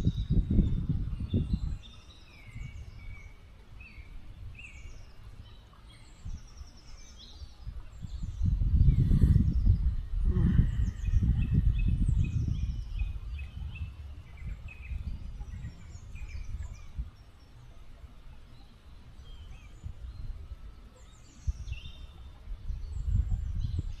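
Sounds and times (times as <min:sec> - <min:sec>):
low rumbling: 0:00.0 - 0:24.0
small birds chirping: 0:00.0 - 0:24.0.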